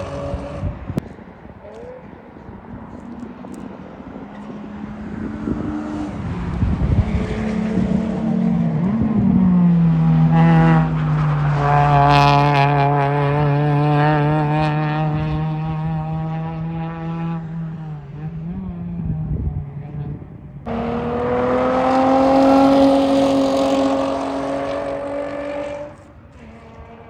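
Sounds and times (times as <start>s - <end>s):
sports car engine drone: 0.0s - 27.0s.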